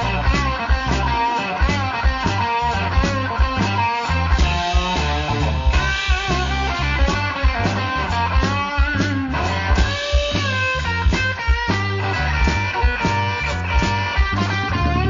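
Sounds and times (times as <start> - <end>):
electric guitar lead: 0.0 - 15.0
steady drum beat: 0.0 - 15.0
walking bass guitar: 0.0 - 15.0.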